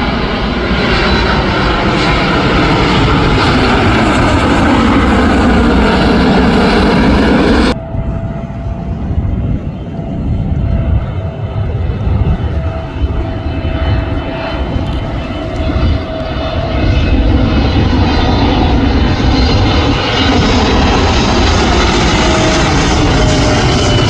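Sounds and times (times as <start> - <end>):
jet engine rumble and whine: 0.0 - 24.0.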